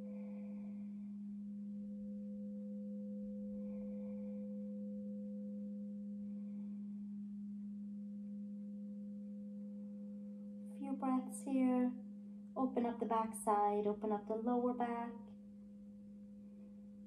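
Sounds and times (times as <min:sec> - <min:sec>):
singing bowl humming: 0:00.0 - 0:17.0.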